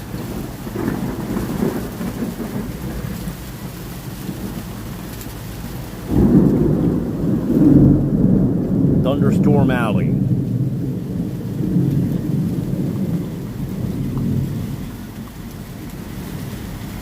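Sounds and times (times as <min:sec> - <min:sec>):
thunder rumbling: 0:00.0 - 0:03.3, 0:06.0 - 0:16.4
rain falling: 0:00.0 - 0:17.0.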